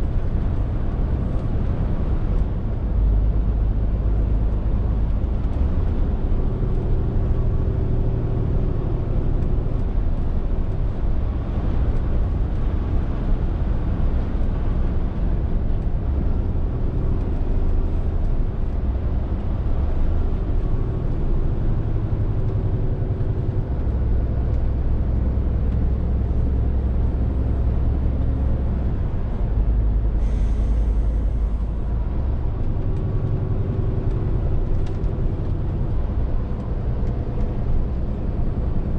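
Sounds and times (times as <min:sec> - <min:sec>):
lorry diesel engine drone: 0:00.0 - 0:38.9.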